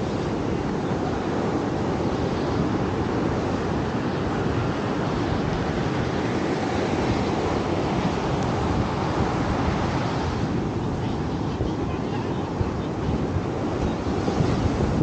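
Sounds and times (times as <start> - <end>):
ocean waves on a beach: 0.0 - 15.0
wind on the microphone: 0.0 - 15.0.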